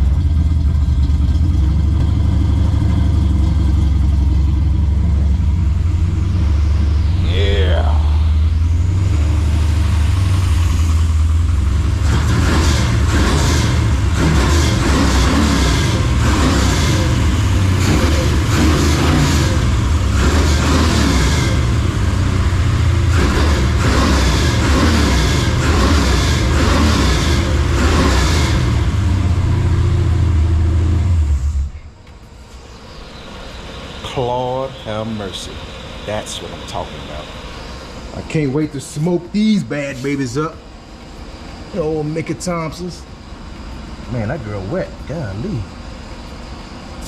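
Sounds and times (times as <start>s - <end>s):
loud engine exhaust rumble: 0.0s - 47.0s.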